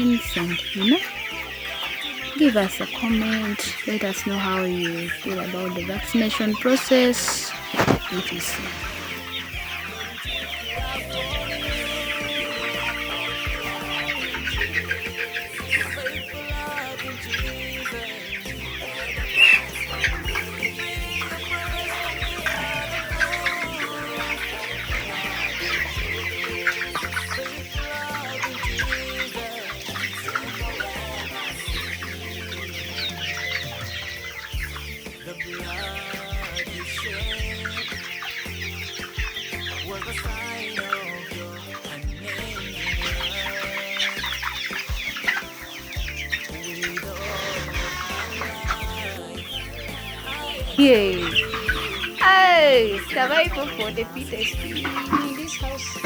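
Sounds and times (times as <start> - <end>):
background music: 0.0 - 56.0
chickens clucking and cheeping: 0.0 - 56.0.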